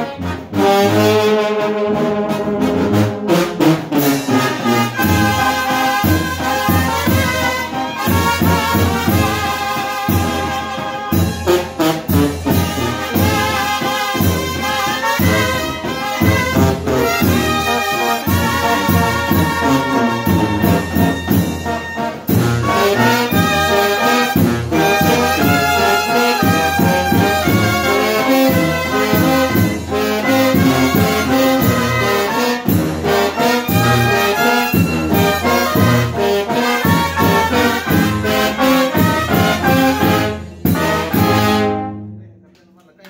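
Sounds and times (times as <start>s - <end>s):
brass band playing: 0.0s - 42.3s.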